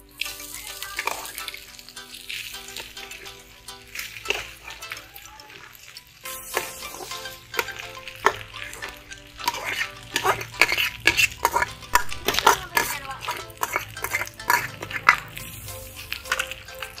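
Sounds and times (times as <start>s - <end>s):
frying sizzle: 0.0s - 17.0s
metal spoon scraping metal pot: 0.9s - 4.9s, 5.9s - 17.0s.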